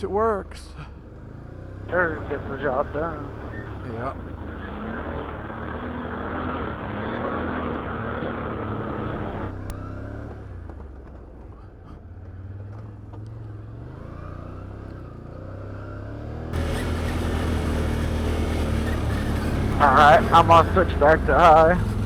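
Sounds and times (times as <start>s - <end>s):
atv engine running: 0.1s - 22.0s.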